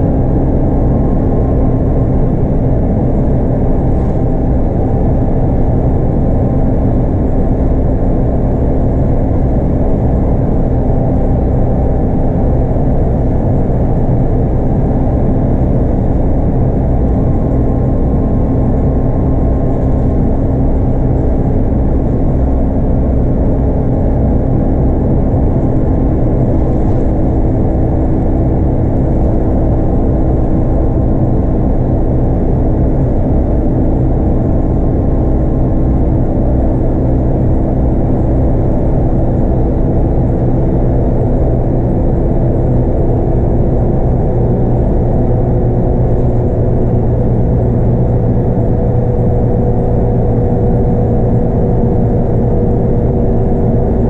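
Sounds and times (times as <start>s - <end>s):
diesel bus engine running: 0.0s - 54.0s.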